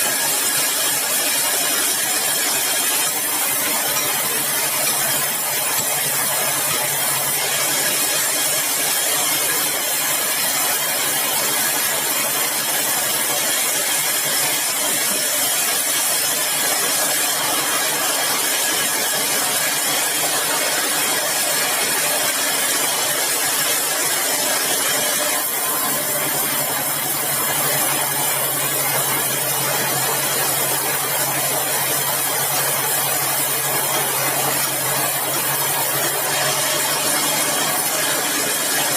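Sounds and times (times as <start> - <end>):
circular saw running: 0.0 - 38.9.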